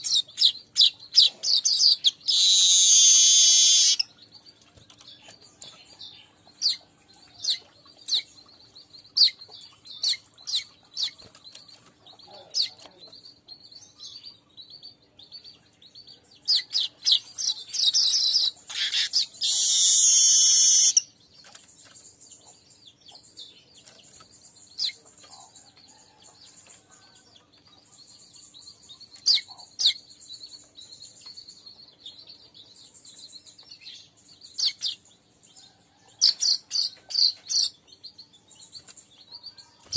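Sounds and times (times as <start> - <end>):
weaver birds chirping and chattering: 0.0 - 39.9.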